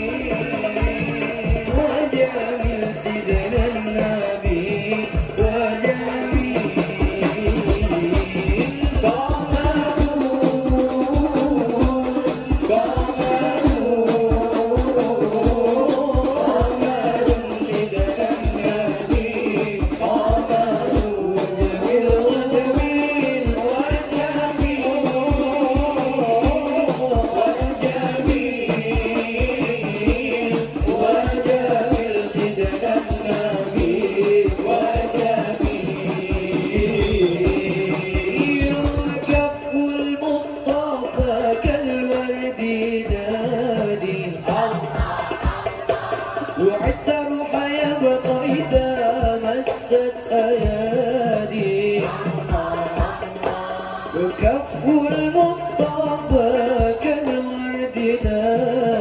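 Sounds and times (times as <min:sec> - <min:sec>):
frame drums beating: 0:00.0 - 0:40.1, 0:44.4 - 0:57.3
men singing devotional song: 0:00.0 - 0:59.0.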